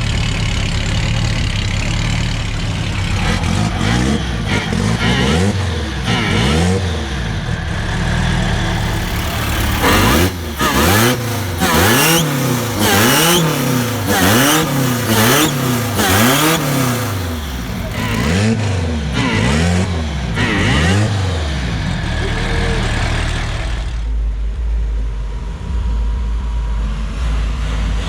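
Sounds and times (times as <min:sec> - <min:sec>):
car engine revving: 0:00.0 - 0:24.6.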